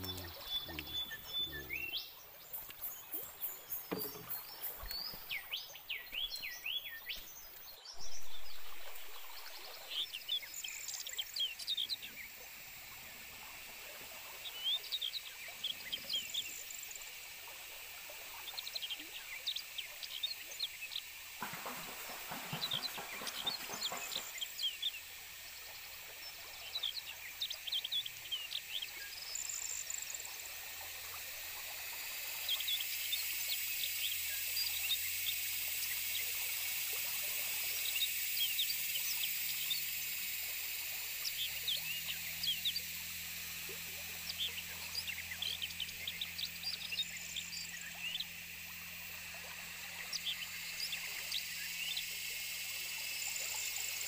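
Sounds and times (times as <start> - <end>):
forest birds chirping: 0.0 - 54.0
steady high hiss: 0.0 - 54.0.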